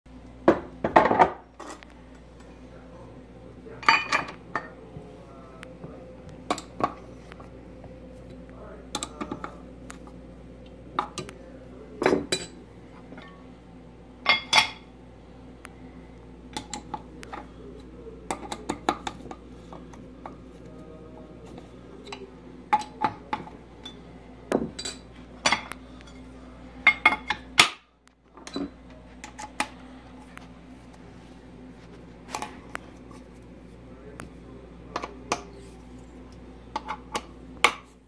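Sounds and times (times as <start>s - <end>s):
steady low hum: 0.1s - 38.0s.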